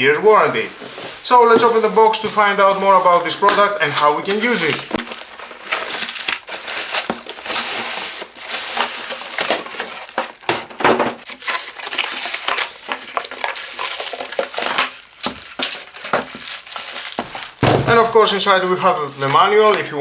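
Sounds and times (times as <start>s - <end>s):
cardboard scraping and crinkling: 0.5s - 20.0s.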